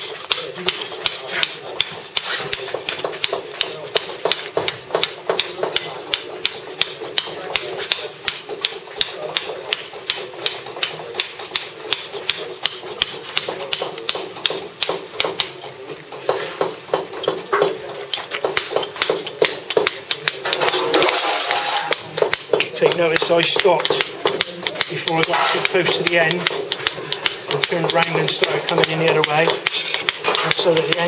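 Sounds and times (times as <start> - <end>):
mallet tapping chisel on stone: 0.0 - 31.0.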